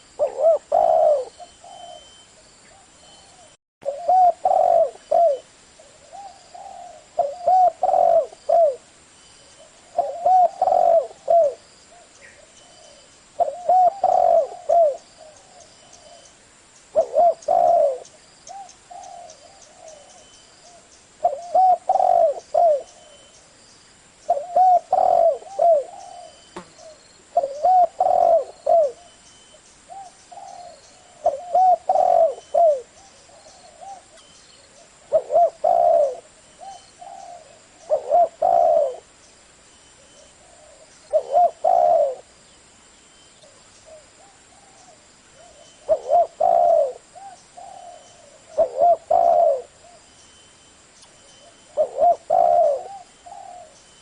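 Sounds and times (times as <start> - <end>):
dove cooing: 0.0 - 8.9, 9.6 - 16.3, 16.9 - 23.3, 24.3 - 29.2, 29.9 - 39.1, 40.0 - 42.3, 43.4 - 50.1, 51.4 - 53.8.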